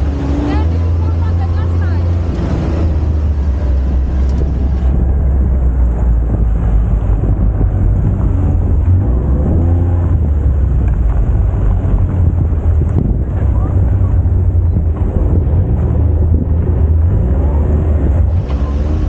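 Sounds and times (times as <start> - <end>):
vehicle engine low rumble: 0.0 - 19.0
wind rushing past moving vehicle: 0.0 - 19.0.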